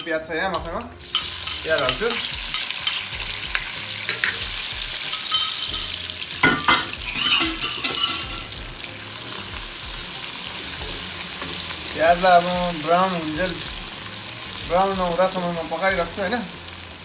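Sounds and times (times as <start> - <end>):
spoon scraping a pan: 0.0 - 14.6
onions sizzling in a pan: 1.0 - 17.0.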